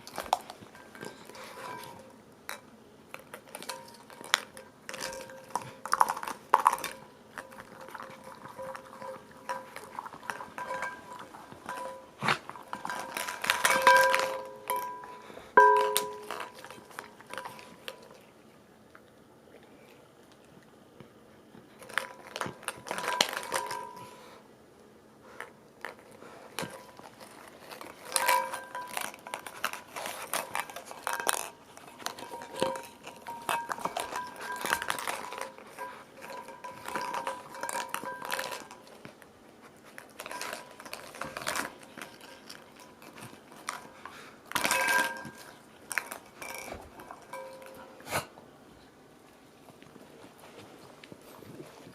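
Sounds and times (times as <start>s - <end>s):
dog rummaging through plastic toys: 0.0s - 18.2s, 21.7s - 24.3s, 25.8s - 48.0s.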